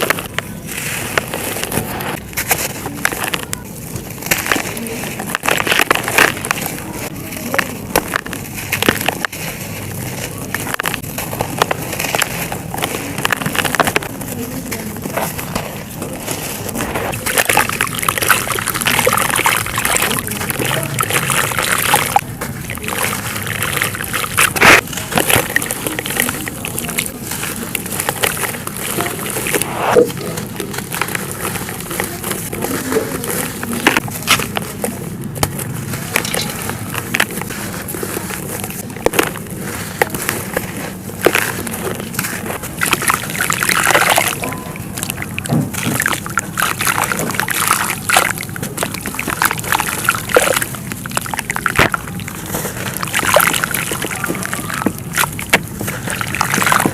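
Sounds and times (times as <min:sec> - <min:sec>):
dry clay crumbling and crunching: 0:00.0 - 0:56.9.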